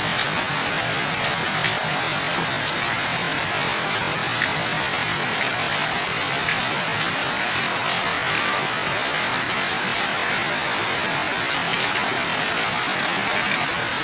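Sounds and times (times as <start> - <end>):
heavy rain on plants: 0.0 - 14.0.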